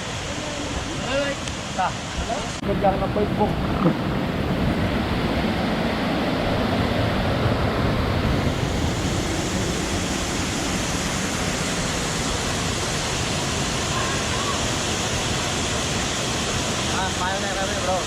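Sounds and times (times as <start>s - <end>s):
wind rushing over microphone: 0.0s - 17.3s.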